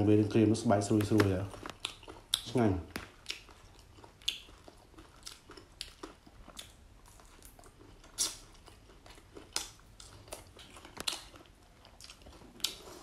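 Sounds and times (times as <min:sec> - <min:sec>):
crunchy chewing: 0:01.0 - 0:13.0.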